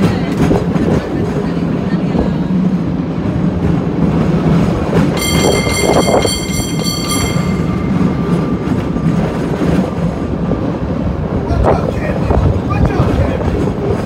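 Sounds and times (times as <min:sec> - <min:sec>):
cable car rumble and clatter: 0:00.0 - 0:14.0.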